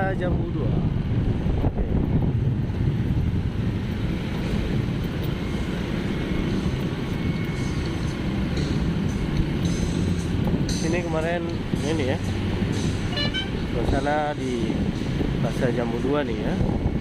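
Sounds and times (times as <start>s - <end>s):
vehicle engine and road rumble: 0.0s - 17.0s
wind buffeting microphone: 0.0s - 17.0s.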